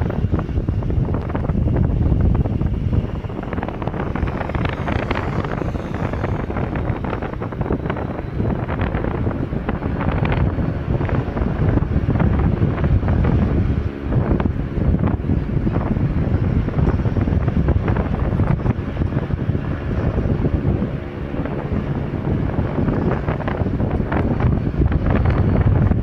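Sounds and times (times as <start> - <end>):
road traffic: 0.0 - 26.0
wind buffeting microphone: 0.0 - 26.0.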